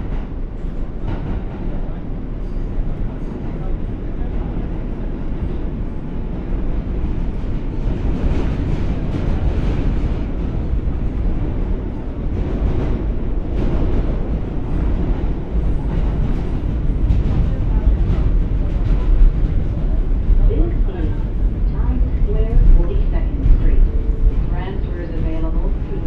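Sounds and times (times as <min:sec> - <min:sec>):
subway train rumble: 0:00.0 - 0:26.0
wheels rattling on track: 0:00.0 - 0:26.0.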